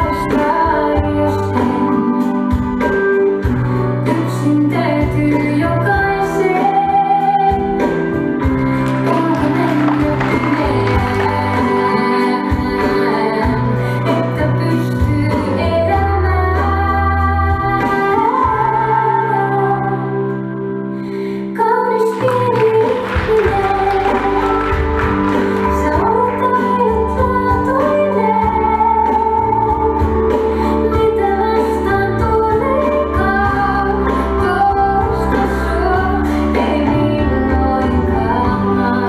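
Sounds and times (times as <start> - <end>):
woman singing slow song: 0.0 - 2.8, 4.0 - 24.8, 25.6 - 39.0
keyboard accompaniment: 0.0 - 39.0.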